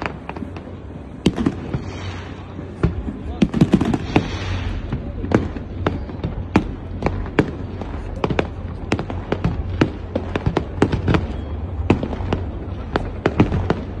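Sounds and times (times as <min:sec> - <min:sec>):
fireworks bangs and cracks: 0:00.0 - 0:14.0
low rumble: 0:00.0 - 0:14.0.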